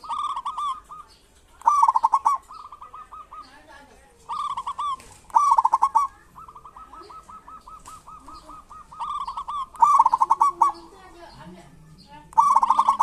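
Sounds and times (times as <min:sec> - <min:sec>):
doves rapid chattering: 0:00.0 - 0:13.0
doves rattling calls: 0:00.0 - 0:13.0.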